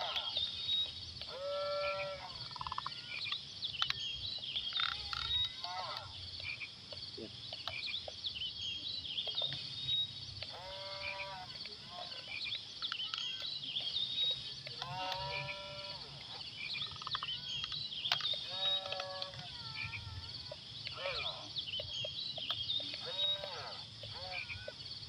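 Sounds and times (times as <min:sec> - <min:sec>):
animal calling: 0:00.0 - 0:00.6, 0:01.2 - 0:07.9, 0:10.4 - 0:24.9
high chirping: 0:00.0 - 0:25.0.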